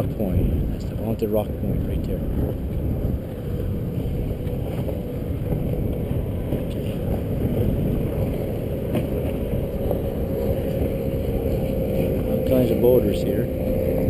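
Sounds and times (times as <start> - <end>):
waves washing against canoe: 0.0 - 14.0
wind buffeting microphone: 0.0 - 14.0.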